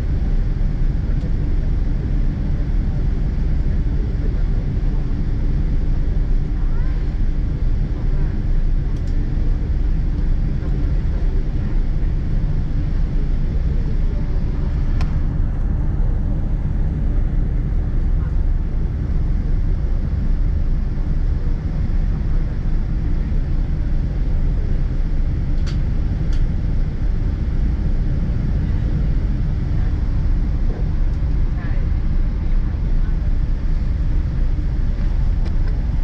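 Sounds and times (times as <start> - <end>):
low rumble of taxiing airplane: 0.0 - 36.0.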